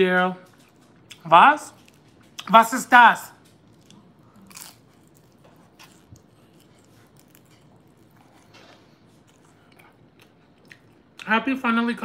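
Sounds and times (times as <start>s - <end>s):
faint chewing food: 0.0s - 11.3s.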